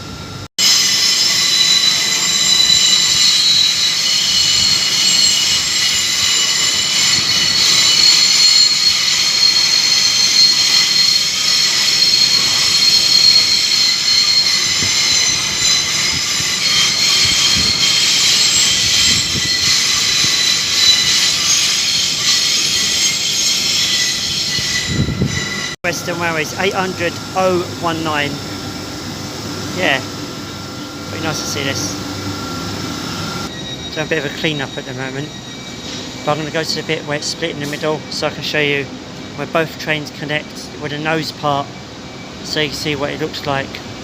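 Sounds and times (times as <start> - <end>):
train high-pitched whine: 0.0 - 44.0.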